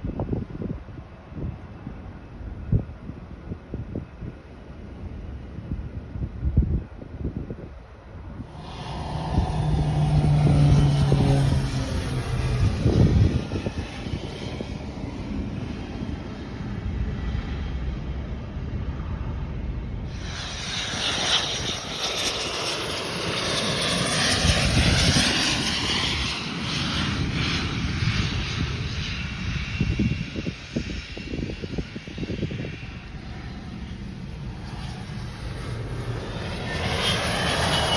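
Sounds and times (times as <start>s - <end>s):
airplane engines passing: 0.0s - 37.9s.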